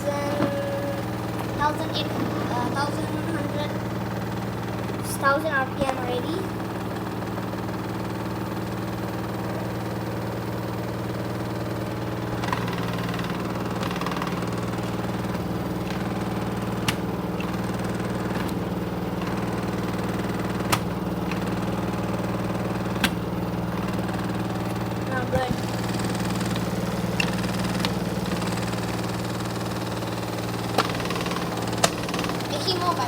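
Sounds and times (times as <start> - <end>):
washing machine drum spinning: 0.0 - 33.0.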